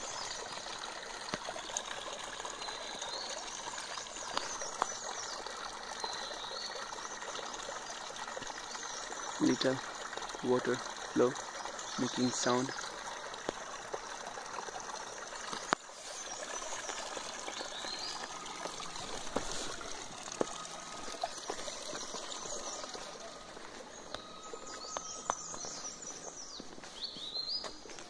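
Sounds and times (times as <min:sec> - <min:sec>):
stream trickling between rocks: 0:00.0 - 0:28.0
birds chirping: 0:02.1 - 0:13.3, 0:15.2 - 0:28.0.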